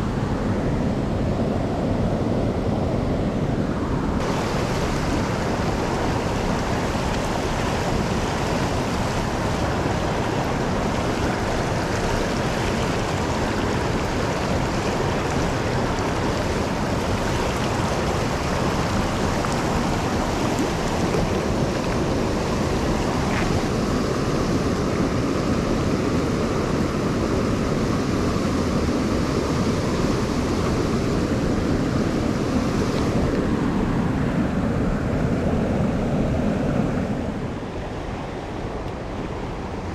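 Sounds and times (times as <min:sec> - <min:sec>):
rushing mountain stream: 0:00.0 - 0:39.9.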